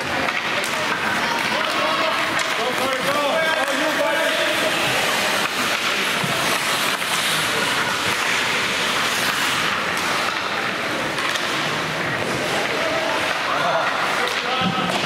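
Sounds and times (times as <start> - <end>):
crowd noise in a gymnasium: 0.0 - 15.0.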